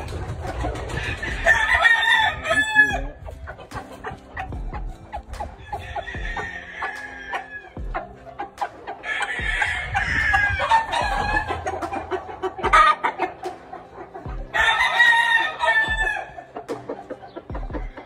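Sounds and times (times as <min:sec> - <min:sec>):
roosters crowing: 0:00.8 - 0:08.4, 0:09.0 - 0:13.4, 0:14.3 - 0:18.0.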